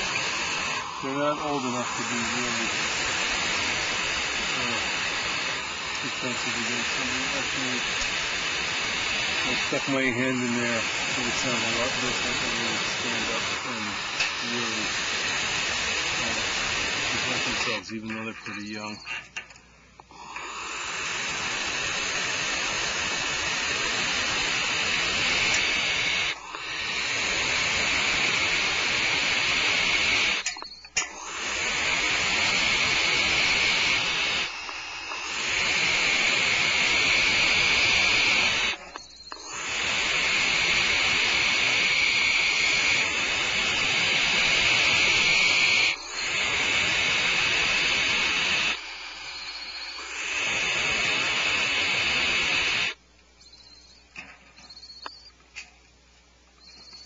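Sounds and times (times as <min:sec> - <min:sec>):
owl nestlings hissing: 0:00.0 - 0:55.8, 0:56.6 - 0:57.0.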